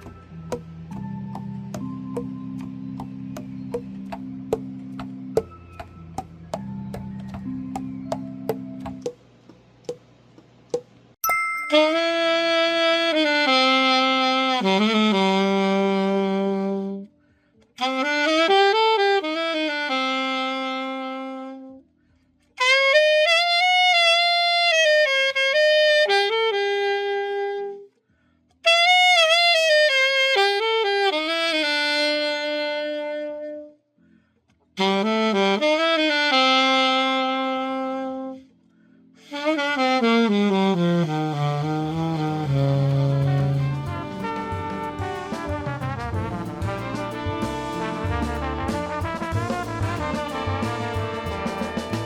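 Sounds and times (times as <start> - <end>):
alto saxophone melody: 0.0 - 9.2, 11.7 - 17.2, 17.8 - 28.0, 28.6 - 34.1, 34.8 - 52.0.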